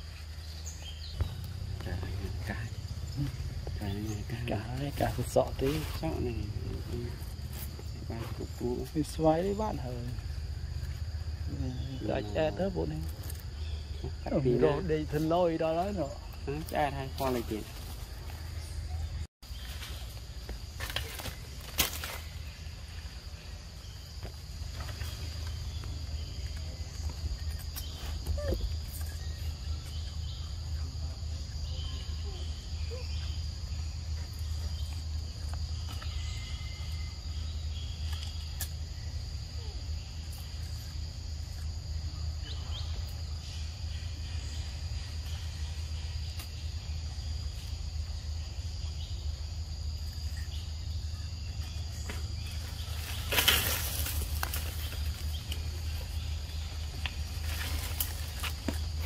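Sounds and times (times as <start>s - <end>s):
constant low rumble: 0.0s - 59.0s
insects chirring: 0.0s - 59.0s.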